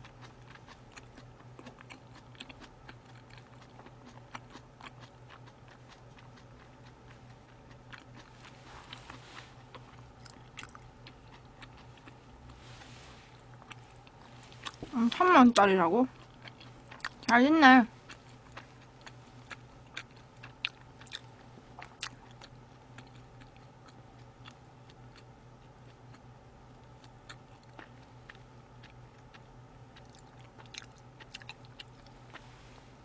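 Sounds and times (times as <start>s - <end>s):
chewing: 0.0s - 17.4s, 18.0s - 32.8s.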